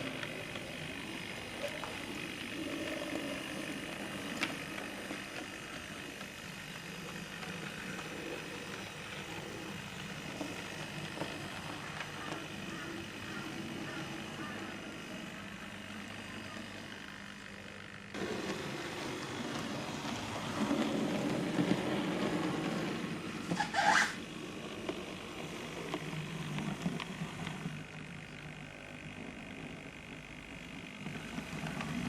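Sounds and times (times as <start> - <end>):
model train motor and wheels: 0.0 - 32.0.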